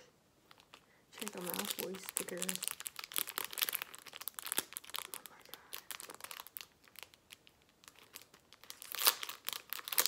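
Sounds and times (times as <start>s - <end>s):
plastic packet crinkling: 0.5s - 10.0s.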